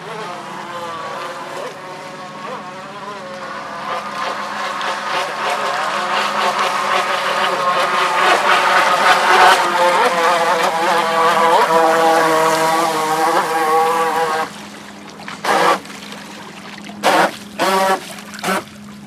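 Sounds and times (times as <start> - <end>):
electric motor whining: 0.0 - 14.8, 15.4 - 15.9, 17.0 - 18.7.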